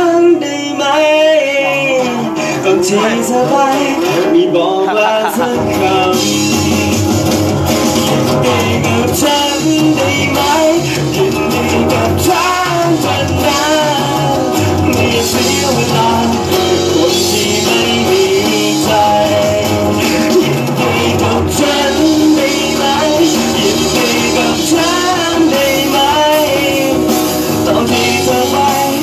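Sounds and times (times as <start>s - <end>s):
live rock band playing: 0.0s - 29.0s
man singing: 0.0s - 29.0s.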